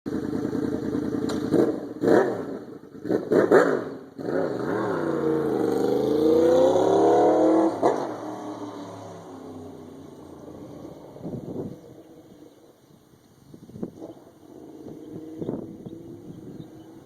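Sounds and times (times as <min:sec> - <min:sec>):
car engine revving: 0:00.1 - 0:12.6, 0:13.9 - 0:17.0.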